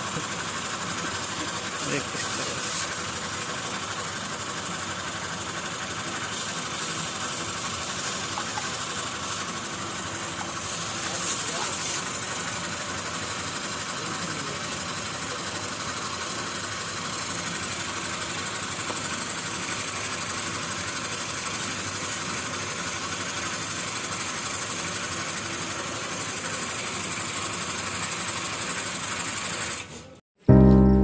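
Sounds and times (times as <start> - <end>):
small engine running steadily: 0.0 - 30.2.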